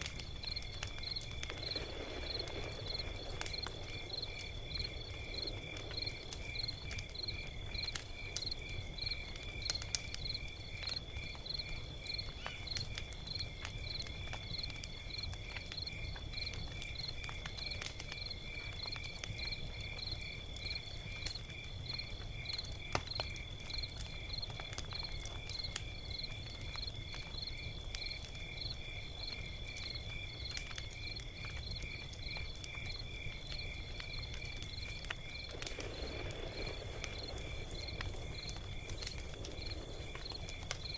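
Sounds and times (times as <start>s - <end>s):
log fire crackling and popping: 0.0s - 40.9s
crickets chirping: 0.1s - 40.9s.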